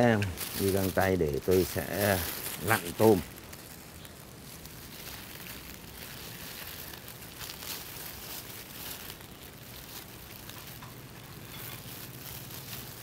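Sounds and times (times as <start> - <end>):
plastic gloves crinkling: 0.0 - 13.0
soft squishes: 0.2 - 13.0.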